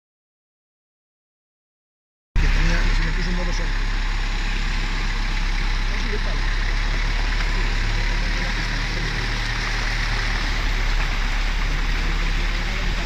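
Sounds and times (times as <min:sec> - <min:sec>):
car engine running at low revs: 0:02.4 - 0:13.0.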